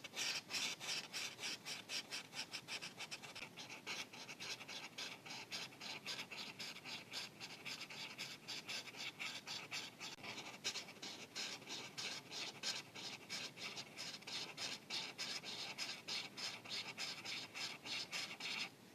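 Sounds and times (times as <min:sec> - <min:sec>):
marker scratching on paper: 0:00.0 - 0:18.7.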